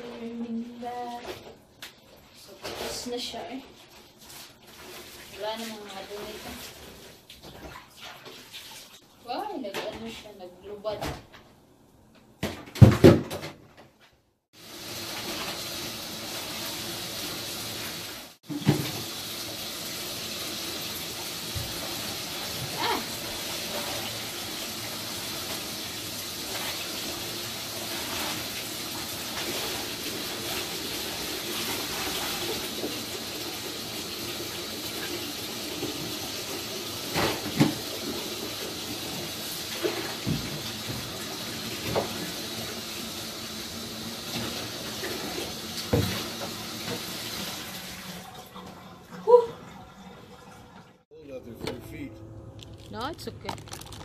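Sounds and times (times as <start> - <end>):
tap water running into bathtub: 0.2 - 10.0, 14.6 - 51.0.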